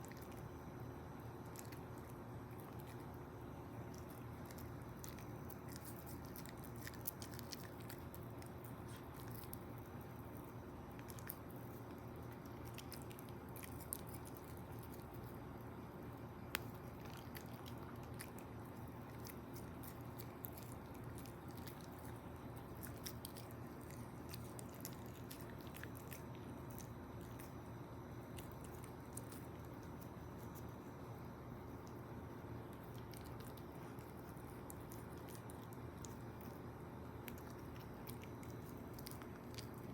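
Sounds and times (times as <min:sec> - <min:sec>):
puppy chewing clicks: 0:00.0 - 0:39.9
steady low hum: 0:00.0 - 0:39.9.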